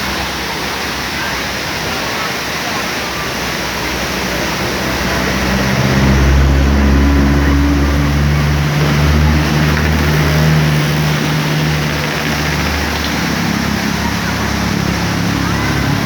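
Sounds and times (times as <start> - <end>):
vehicle engine drone: 0.0 - 16.0
waterfall rushing: 0.0 - 16.0.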